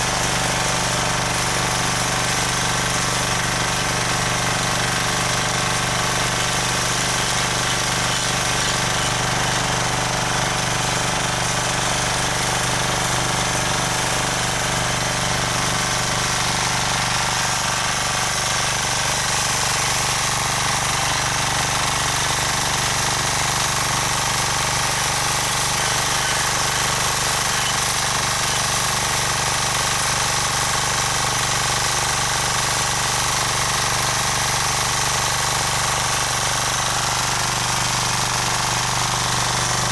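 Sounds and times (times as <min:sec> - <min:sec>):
tiller engine running: 0:00.0 - 0:39.9
tines churning soil: 0:00.0 - 0:39.9.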